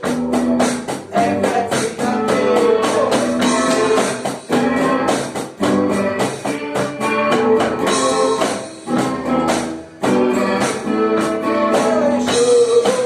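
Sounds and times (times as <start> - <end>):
rock guitar: 0.0 - 13.0
tambourine beat: 0.0 - 13.0.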